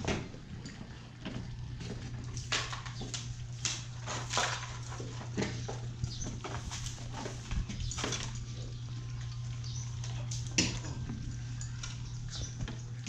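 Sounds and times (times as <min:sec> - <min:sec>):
puppies eating from metal bowls: 0:00.0 - 0:13.0
steady low hum: 0:00.0 - 0:13.0.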